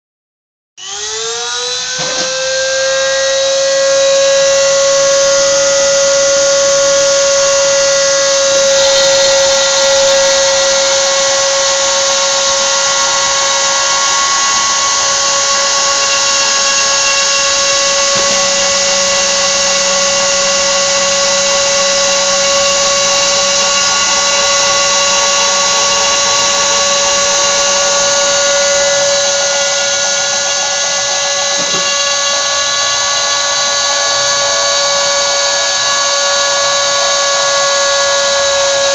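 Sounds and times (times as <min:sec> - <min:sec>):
rotary tool high-pitched whine: 0:00.8 - 0:38.9.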